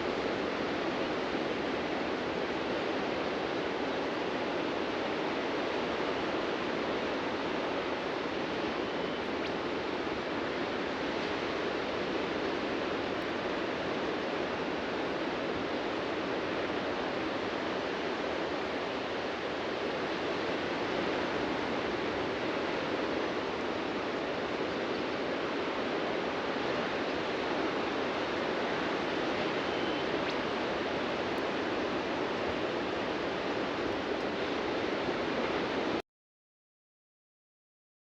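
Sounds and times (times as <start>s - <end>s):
ocean surf washing onto beach: 0.0s - 36.0s.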